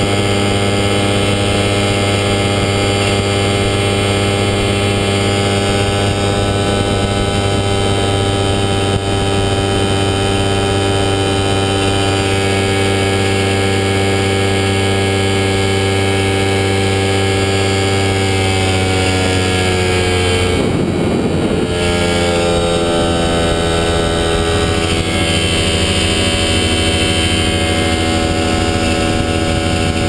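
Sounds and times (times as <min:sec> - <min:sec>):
ultralight aircraft engine and propeller: 0:00.0 - 0:30.0
wind rushing over camera: 0:00.0 - 0:30.0.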